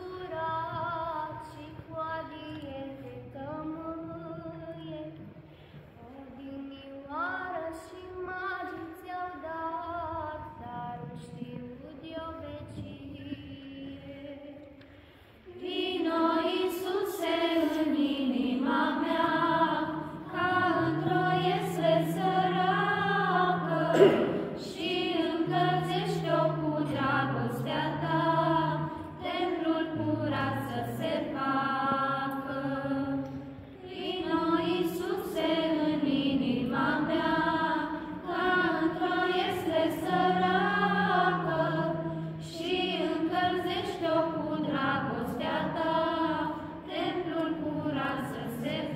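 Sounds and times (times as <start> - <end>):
women singing unaccompanied: 0.0 - 5.4, 6.0 - 14.8, 15.5 - 48.9.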